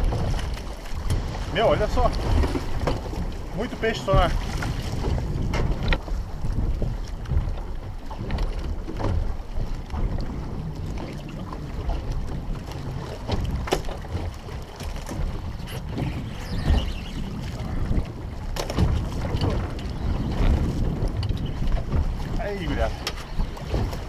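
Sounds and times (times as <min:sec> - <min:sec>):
sea noise: 0:00.0 - 0:24.0
wind buffeting microphone: 0:00.0 - 0:24.0.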